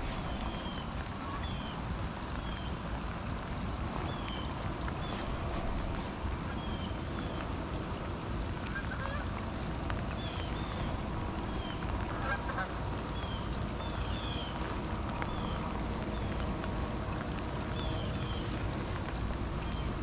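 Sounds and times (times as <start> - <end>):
rain falling on water: 0.0 - 20.0
wind rumble on microphone: 0.0 - 20.0.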